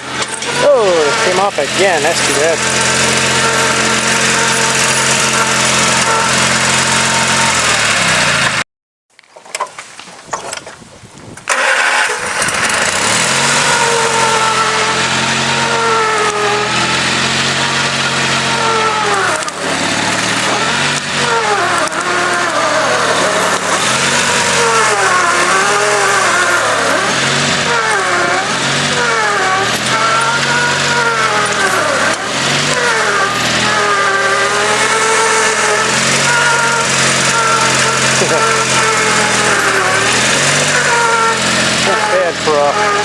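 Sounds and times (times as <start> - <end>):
garden tractor engine labouring: 0.0 - 8.6, 11.5 - 43.0.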